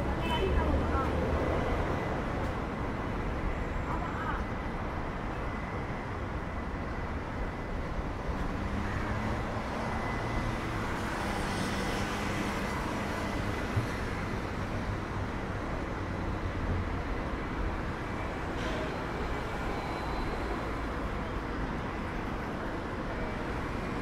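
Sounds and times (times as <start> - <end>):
city street traffic: 0.0 - 24.0.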